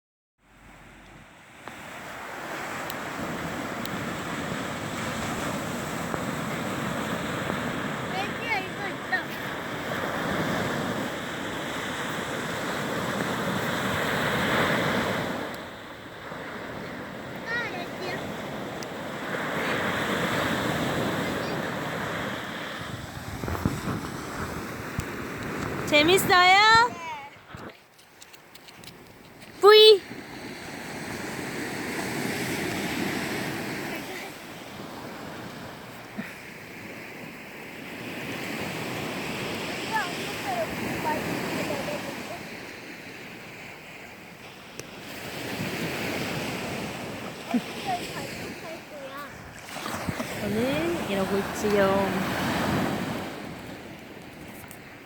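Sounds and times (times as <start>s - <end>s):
sea waves breaking on shore: 0.4s - 55.0s.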